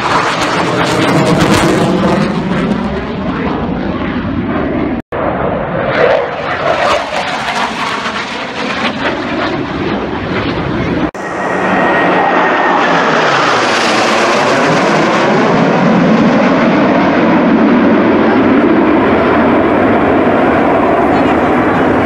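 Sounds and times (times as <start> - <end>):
jets flying over: 0.0 - 22.0.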